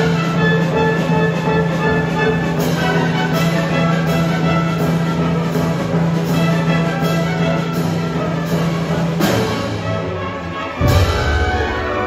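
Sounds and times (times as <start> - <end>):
orchestra playing: 0.0 - 12.0.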